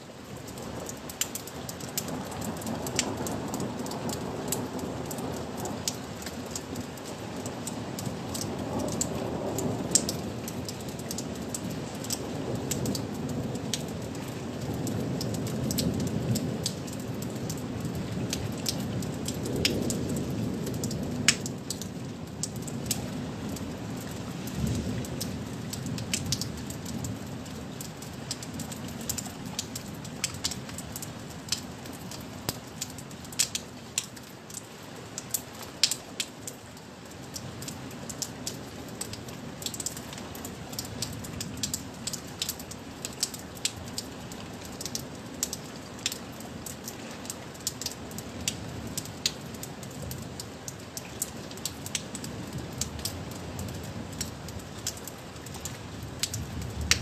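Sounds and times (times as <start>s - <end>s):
rain low rumble: 0.0s - 57.0s
raindrops ticking: 0.0s - 57.0s.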